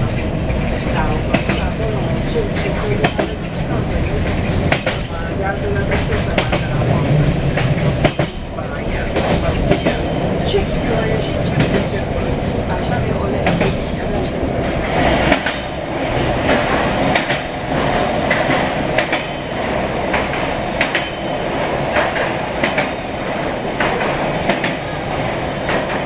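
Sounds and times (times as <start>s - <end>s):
train rumble inside carriage: 0.0s - 26.0s
wheels clicking over rail joints: 0.0s - 26.0s.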